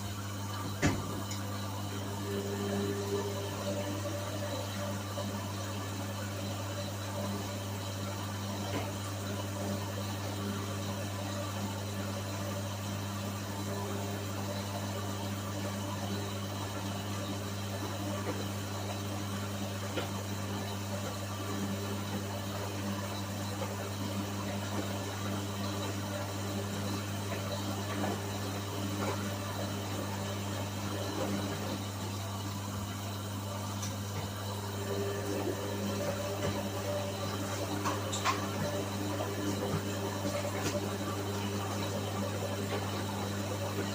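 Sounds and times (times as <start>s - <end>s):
washing machine motor hum: 0.0s - 43.9s.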